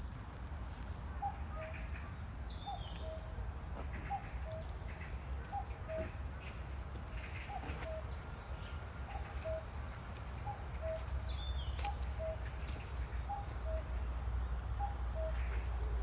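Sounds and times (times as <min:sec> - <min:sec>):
bird chirp: 0:01.1 - 0:16.0.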